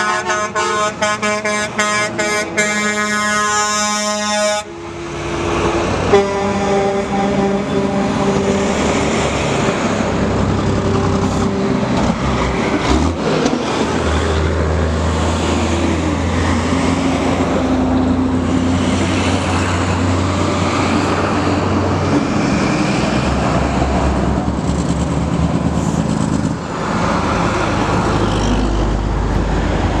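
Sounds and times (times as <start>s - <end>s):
diesel truck engines droning: 0.0s - 30.0s
road noise: 0.0s - 30.0s.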